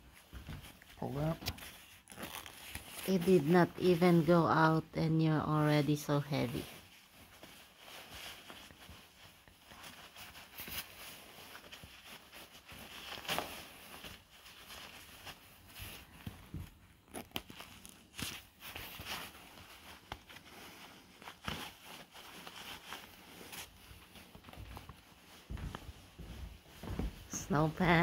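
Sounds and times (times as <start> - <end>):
parka and gloves rustling: 0.0 - 28.0.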